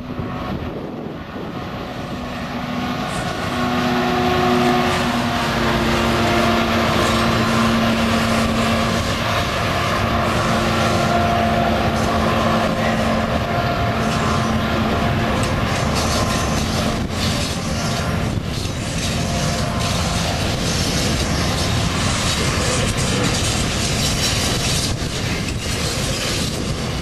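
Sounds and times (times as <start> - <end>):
diesel locomotive drone: 0.0 - 27.0
freight train wagons rolling: 1.3 - 27.0.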